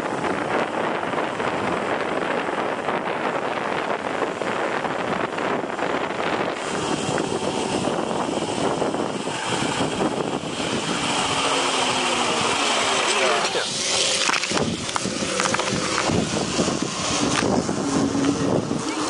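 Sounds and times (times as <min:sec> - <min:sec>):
wind on microphone: 0:00.0 - 0:19.0
zipline pulleys whirring on cable: 0:00.0 - 0:19.0.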